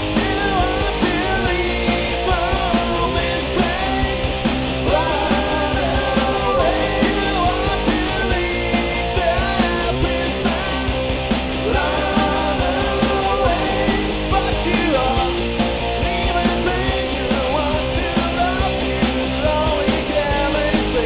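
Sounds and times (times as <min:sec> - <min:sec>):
person singing: 0:00.0 - 0:11.0, 0:11.6 - 0:21.0
rock band playing: 0:00.0 - 0:21.0.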